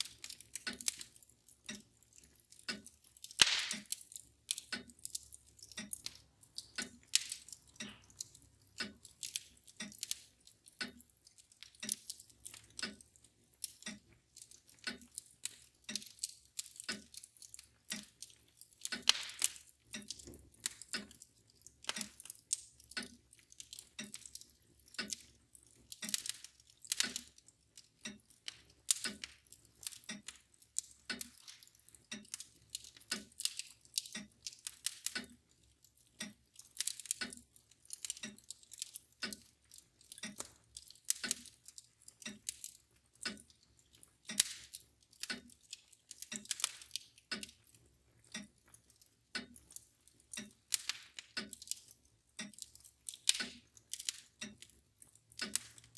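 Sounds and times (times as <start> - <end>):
clock ticking: 0.0 - 55.9
wood fire crackling and popping: 0.0 - 55.9.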